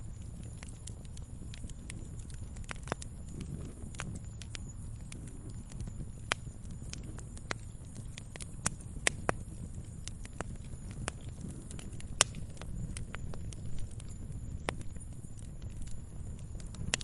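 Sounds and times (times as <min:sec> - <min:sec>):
low rumble of flame: 0:00.0 - 0:17.0
wood fire crackling: 0:00.0 - 0:17.0.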